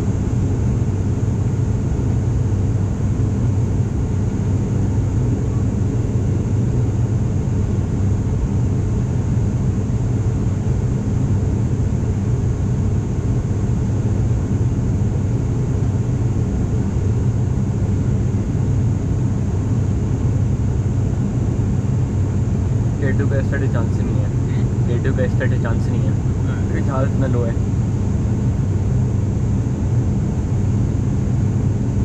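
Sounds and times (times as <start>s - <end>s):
turboprop engines droning in cabin: 0.0s - 32.0s.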